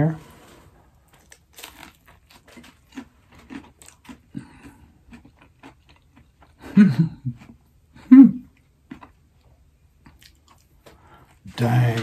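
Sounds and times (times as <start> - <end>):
close crunchy chewing: 0.9 - 11.8.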